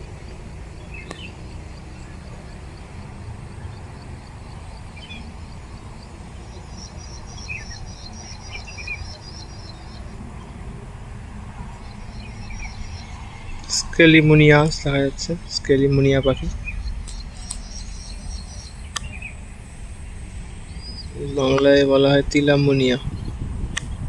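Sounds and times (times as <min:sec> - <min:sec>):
low background rumble: 0:00.0 - 0:24.0
small birds chirping: 0:00.0 - 0:24.0.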